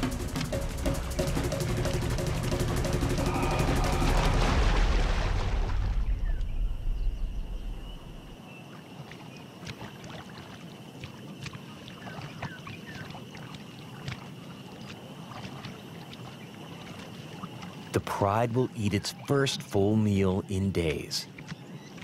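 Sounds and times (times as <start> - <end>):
insect drone: 0.0 - 22.0
water sloshing and splashing: 0.0 - 22.0.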